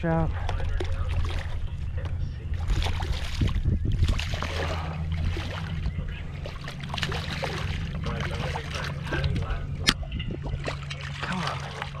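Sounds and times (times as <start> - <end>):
steady low rumble: 0.0 - 12.0
water lapping against kayak hull: 0.0 - 12.0.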